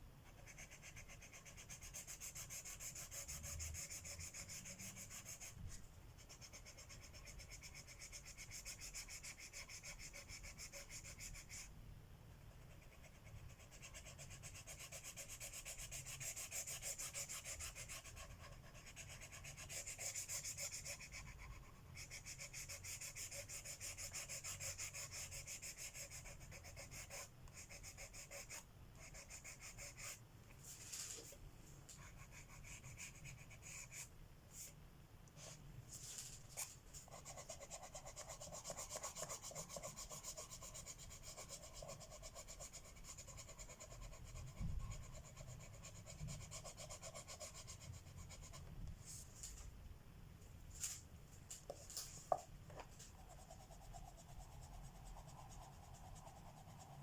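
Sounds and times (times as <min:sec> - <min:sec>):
pencil scratching on paper: 0:00.2 - 0:11.7, 0:12.6 - 0:34.7, 0:35.4 - 0:48.7, 0:51.7 - 0:57.0.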